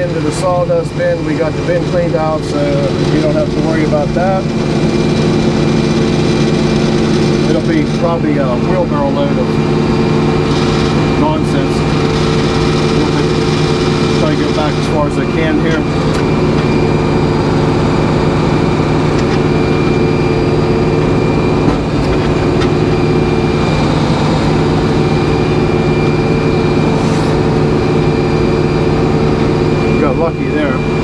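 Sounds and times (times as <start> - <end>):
machinery droning: 0.0 - 31.0.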